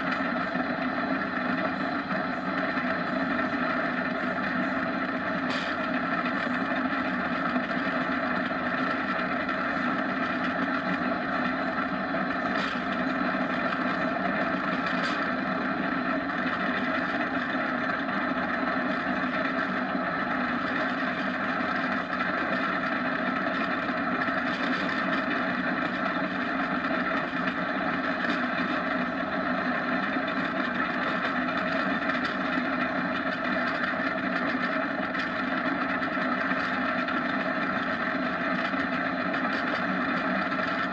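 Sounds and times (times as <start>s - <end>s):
kart wheels rolling on asphalt: 0.0s - 40.9s.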